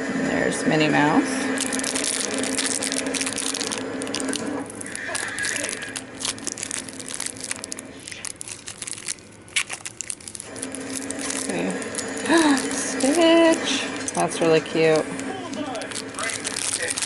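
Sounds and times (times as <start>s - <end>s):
plastic packaging crinkling: 1.4s - 17.0s.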